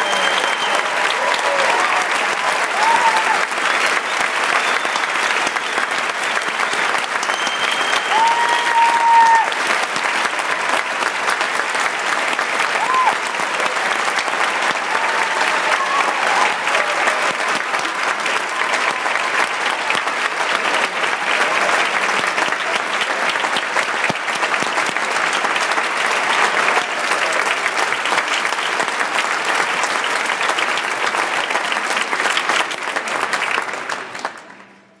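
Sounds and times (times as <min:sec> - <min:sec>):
large audience applauding: 0:00.0 - 0:35.0.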